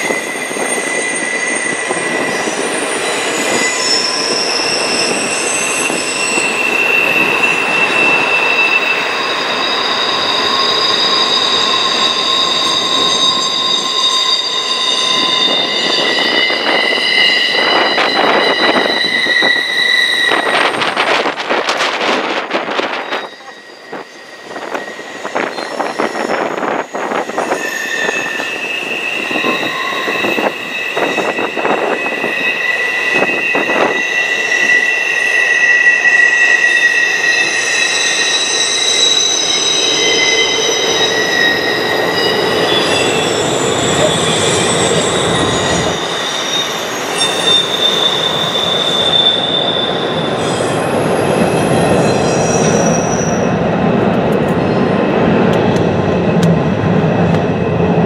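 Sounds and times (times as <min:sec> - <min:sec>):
train rumble: 0:00.0 - 0:35.4, 0:37.2 - 0:58.0
train wheels squealing: 0:00.0 - 0:53.6, 0:54.4 - 0:56.0.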